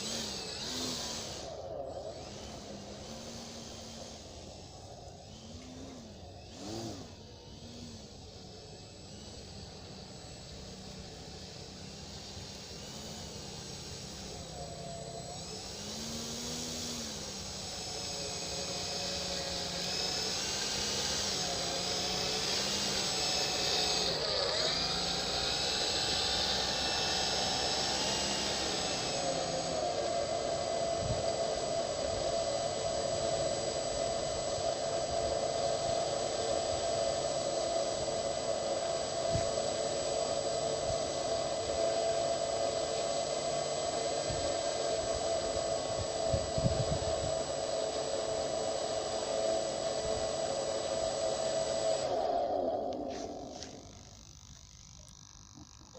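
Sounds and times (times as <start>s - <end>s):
model plane motor whining: 0.0s - 55.9s.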